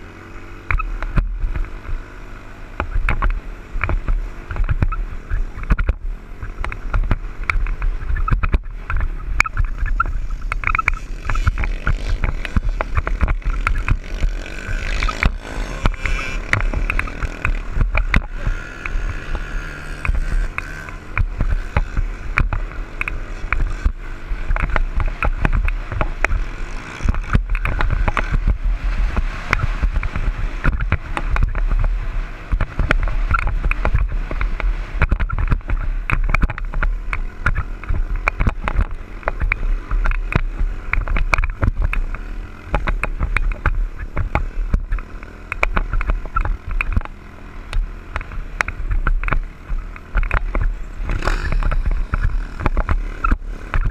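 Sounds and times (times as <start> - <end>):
dirt bike engine revving: 0.0 - 53.9
wind rumble on microphone: 0.0 - 53.9
knocks and thumps from riding: 0.5 - 53.9.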